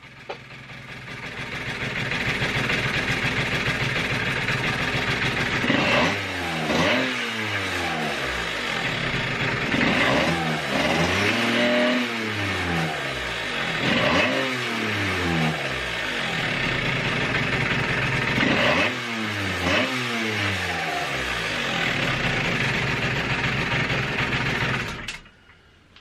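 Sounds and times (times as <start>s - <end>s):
scooter engine revving: 0.0s - 25.2s.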